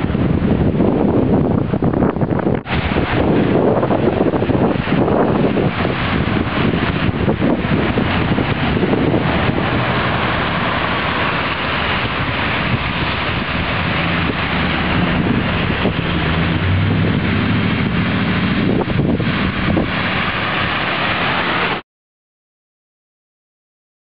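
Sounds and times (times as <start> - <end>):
steady rain: 0.0 - 21.8
truck passing on wet road: 0.0 - 21.8
wind buffeting microphone: 0.0 - 21.8.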